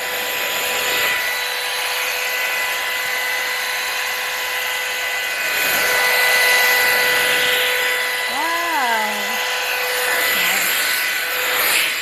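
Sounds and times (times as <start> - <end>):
hot air brush motor whine: 0.0 - 12.0.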